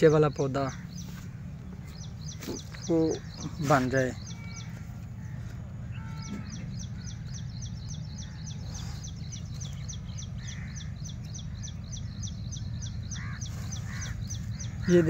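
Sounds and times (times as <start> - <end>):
small bird chirping: 0.0 - 15.0
steady low rumble: 0.0 - 15.0.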